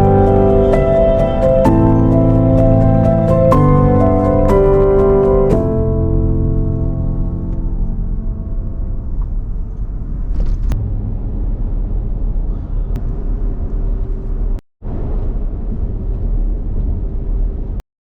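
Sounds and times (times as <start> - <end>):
low road rumble: 0.0 - 17.8
wind noise: 0.0 - 17.8.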